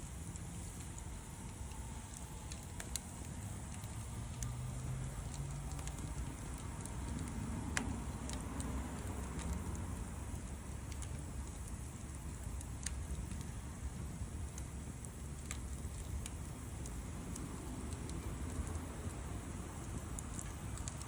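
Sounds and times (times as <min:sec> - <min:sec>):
burning wood popping: 0:00.0 - 0:21.0
steady low rumble: 0:00.0 - 0:21.0
wood fire crackling: 0:00.0 - 0:21.0.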